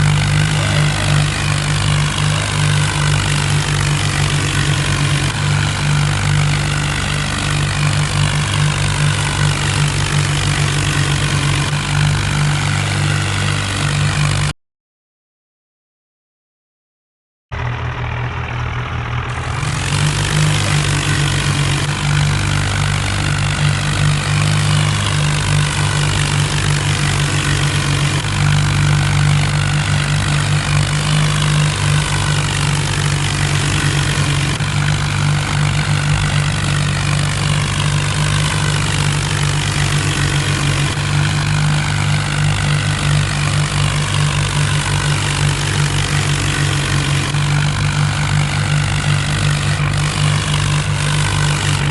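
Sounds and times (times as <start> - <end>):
tractor engine running: 0.0 - 14.6, 17.5 - 51.9.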